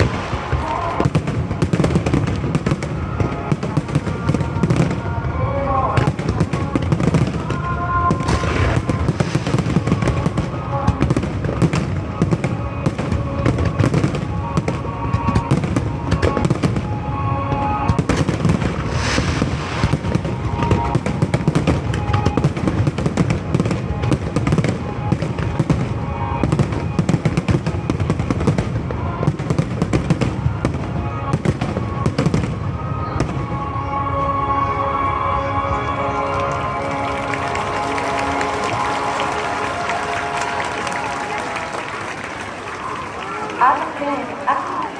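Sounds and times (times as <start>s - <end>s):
fireworks bangs and crackles: 0.0s - 33.8s, 36.1s - 44.9s
music playing: 0.0s - 44.9s.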